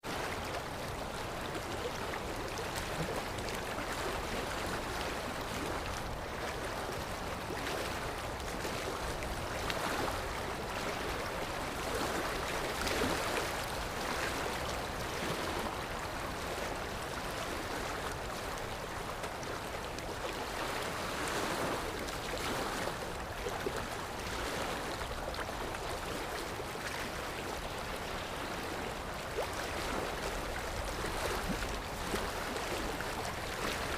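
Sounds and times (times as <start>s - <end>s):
sea waves washing ashore: 0.0s - 33.9s.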